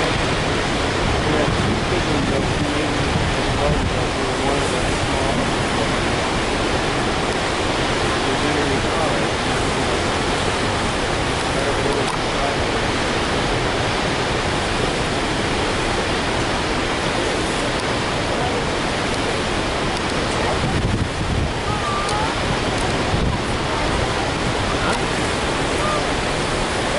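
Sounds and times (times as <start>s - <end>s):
floodwater rushing: 0.0s - 26.9s.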